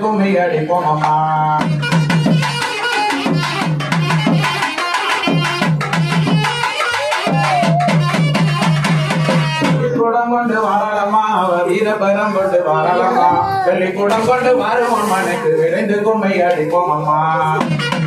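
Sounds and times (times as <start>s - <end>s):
pitched drum percussion music: 0.0s - 18.0s.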